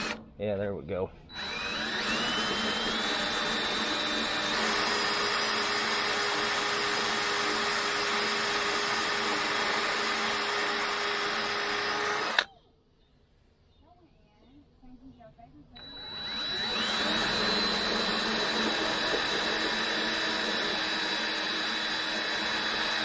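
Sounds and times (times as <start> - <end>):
cordless drill boring through steel: 0.0 - 0.2, 1.3 - 12.5, 15.8 - 23.0.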